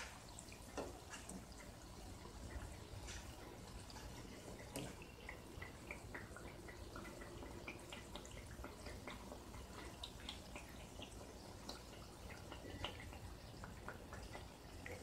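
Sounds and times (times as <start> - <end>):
food deep-frying in oil: 0.0 - 15.0.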